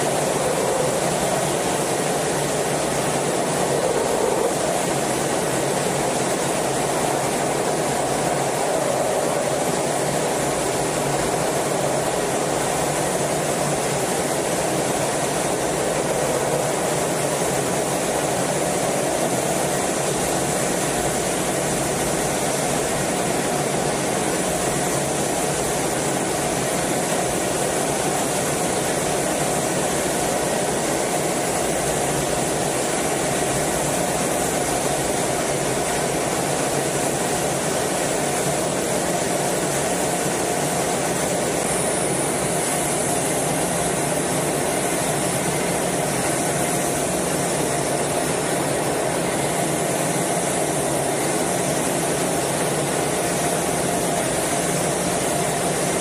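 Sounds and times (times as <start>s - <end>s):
jet engine and rushing air roar: 0.0s - 56.0s.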